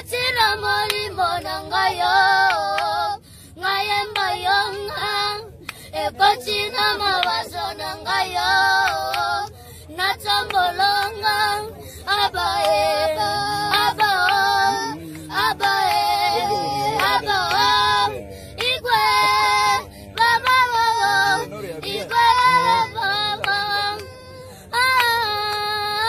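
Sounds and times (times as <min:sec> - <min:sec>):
boys singing unaccompanied: 0:00.0 - 0:26.0.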